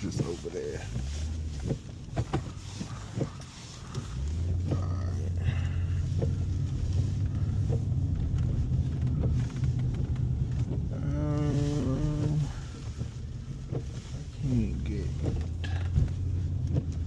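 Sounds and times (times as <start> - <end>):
car engine rumble: 0.0 - 17.0
road noise inside car: 0.0 - 17.0.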